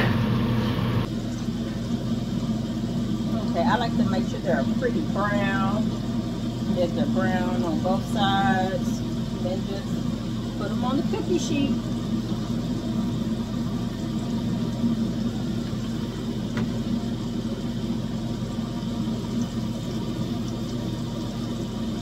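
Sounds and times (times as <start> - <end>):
food frying in oil: 0.0 - 22.0
low whir: 0.0 - 22.0.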